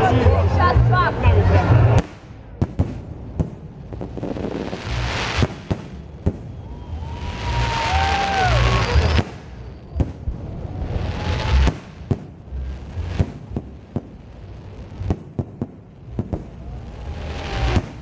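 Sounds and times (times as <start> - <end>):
rushing hiss of fireworks: 1.6 - 18.0
fireworks bangs: 1.7 - 18.0.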